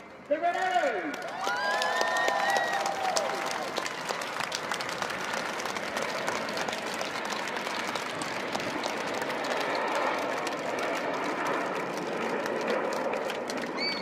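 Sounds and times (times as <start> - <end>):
crowd applauding: 0.5 - 14.0
distant jet roar: 2.8 - 14.0.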